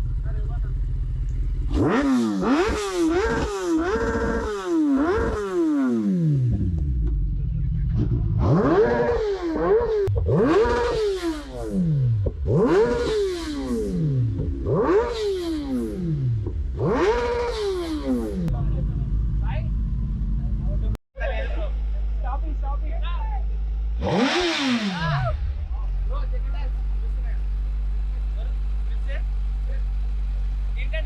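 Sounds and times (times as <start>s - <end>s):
motorcycle engine revving: 0.0s - 21.0s, 23.4s - 31.0s.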